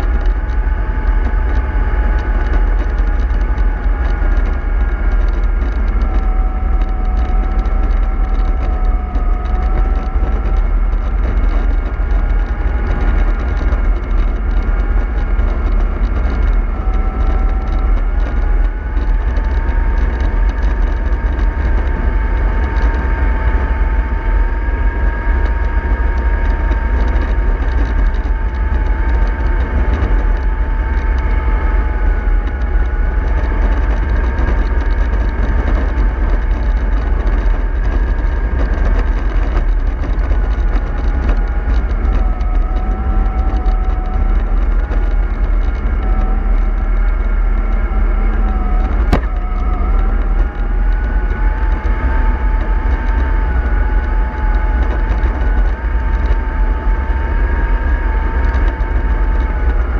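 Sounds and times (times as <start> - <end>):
bus engine rumble and whine: 0.0 - 59.9.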